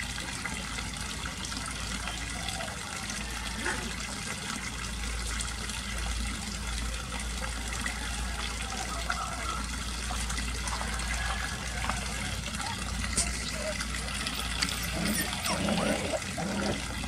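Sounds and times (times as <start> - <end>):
water running: 0.0 - 17.0.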